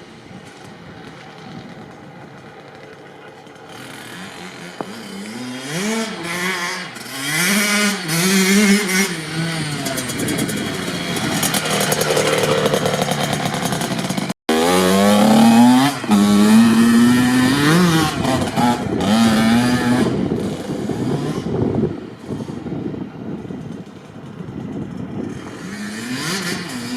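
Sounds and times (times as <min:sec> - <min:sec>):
dirt bike engine revving: 0:00.9 - 0:22.8, 0:23.8 - 0:26.9.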